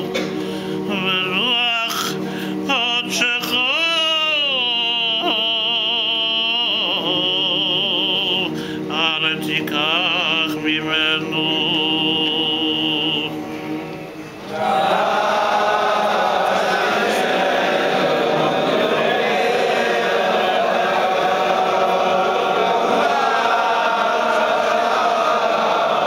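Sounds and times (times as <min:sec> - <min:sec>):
congregation chanting: 0:00.0 - 0:26.0.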